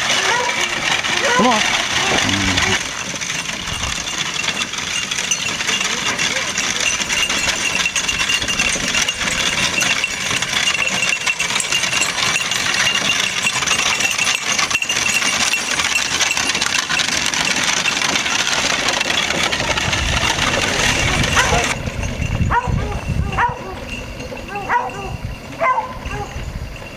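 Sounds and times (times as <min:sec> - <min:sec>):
cart rattling: 0:00.0 - 0:26.9
hooves and wheels crunching gravel: 0:00.0 - 0:26.9.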